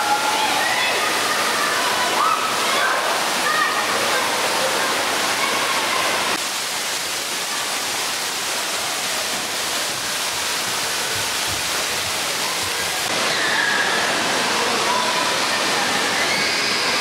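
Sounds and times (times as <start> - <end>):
fountains splashing into a pool: 0.0 - 17.0.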